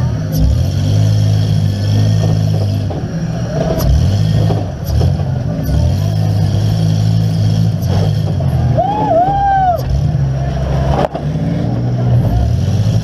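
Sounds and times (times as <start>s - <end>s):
engine revving hard: 0.0s - 13.0s.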